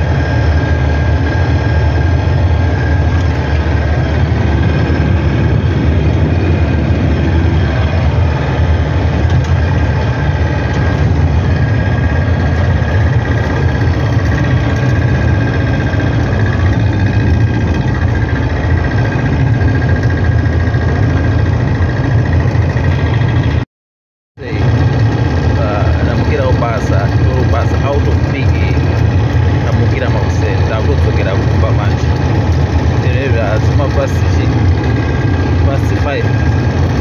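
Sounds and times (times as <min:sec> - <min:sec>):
vehicle engine and road noise: 0:00.0 - 0:23.6, 0:24.4 - 0:37.0.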